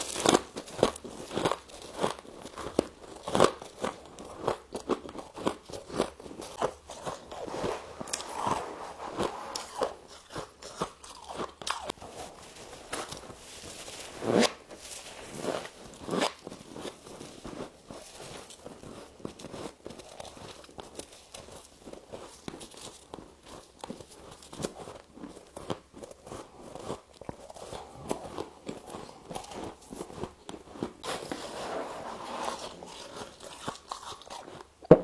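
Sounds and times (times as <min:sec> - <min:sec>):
chewing crunchy ice: 0:00.0 - 0:13.3, 0:15.6 - 0:31.4, 0:32.3 - 0:35.0.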